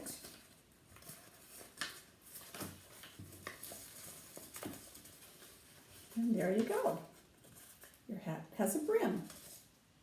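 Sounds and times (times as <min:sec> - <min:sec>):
paper crackling and tapping: 0:00.0 - 0:09.8.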